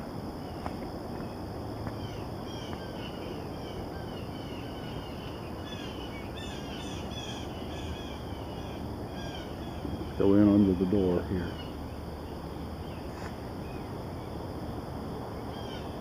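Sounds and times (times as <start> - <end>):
low outdoor rumble: 0.0 - 16.0
small birds chirping: 0.4 - 14.5.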